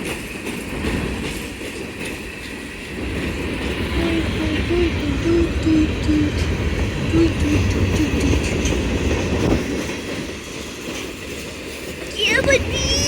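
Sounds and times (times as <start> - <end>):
freight train wheels rumbling on rails: 0.0 - 13.0.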